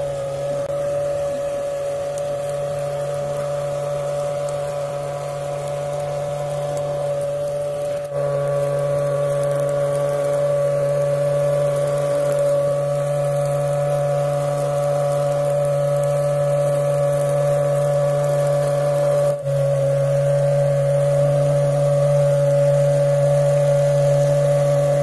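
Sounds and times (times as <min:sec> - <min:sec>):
small motor whining: 0:00.0 - 0:25.0.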